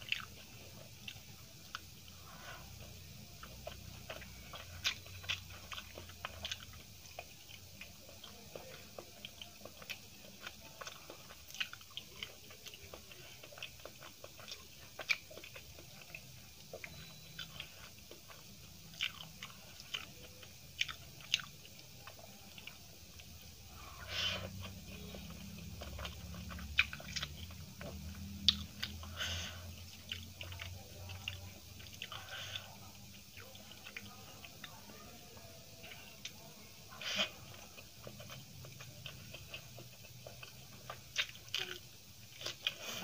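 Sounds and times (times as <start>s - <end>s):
close chewing and mouth sounds: 0.0s - 43.0s.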